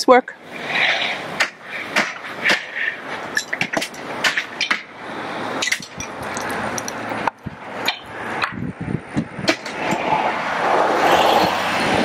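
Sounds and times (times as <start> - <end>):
steady rushing noise: 0.4 - 12.0.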